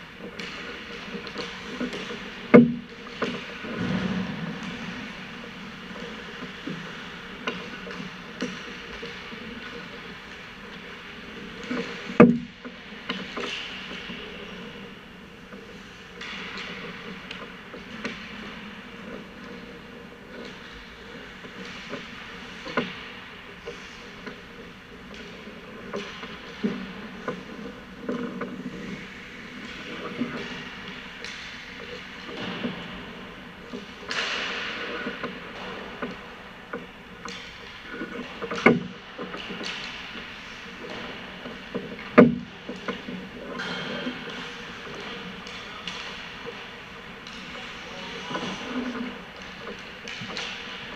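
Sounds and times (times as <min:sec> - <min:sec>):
hockey sticks striking pucks: 0:00.1 - 0:36.5, 0:37.1 - 0:50.9.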